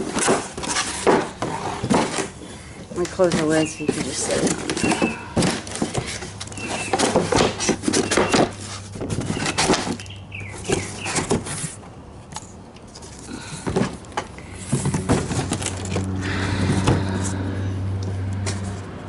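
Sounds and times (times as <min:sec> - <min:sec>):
cardboard box rustling: 0:00.0 - 0:11.9, 0:12.9 - 0:17.1.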